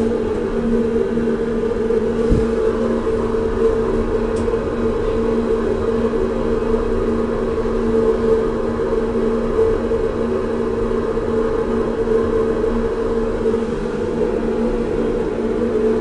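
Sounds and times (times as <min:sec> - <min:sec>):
elevator hum with two tones: 0:00.0 - 0:16.0.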